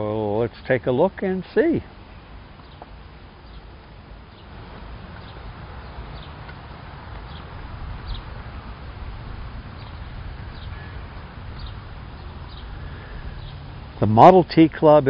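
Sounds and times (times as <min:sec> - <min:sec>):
steady low rumble: 0:01.8 - 0:15.0.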